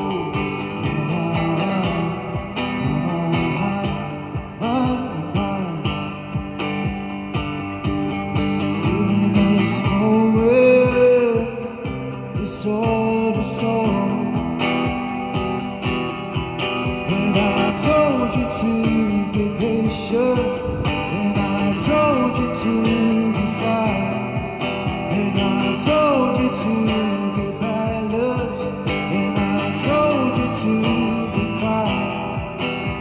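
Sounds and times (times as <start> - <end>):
man singing: 0.0 - 7.0, 8.6 - 15.4, 16.8 - 33.0
electric guitar strummed and picked: 0.0 - 33.0.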